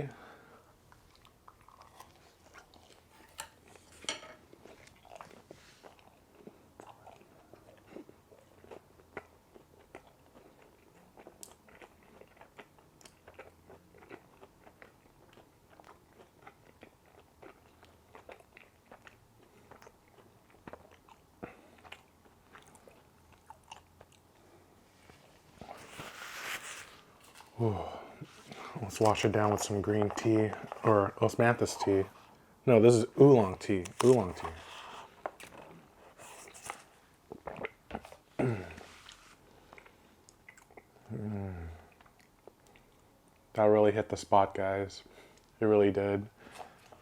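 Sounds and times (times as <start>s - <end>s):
person chewing food: 0.7s - 32.6s, 33.4s - 43.5s, 46.4s - 47.0s.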